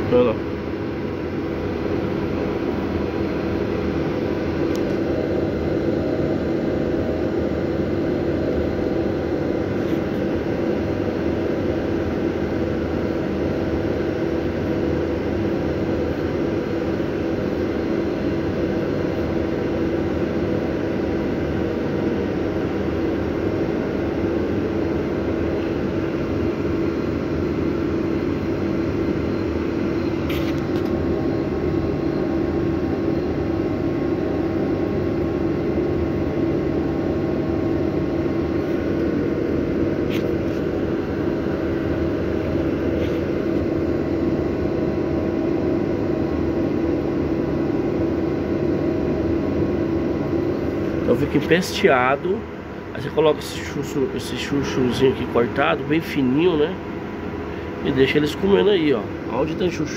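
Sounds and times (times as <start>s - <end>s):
machine humming: 0.0s - 59.9s.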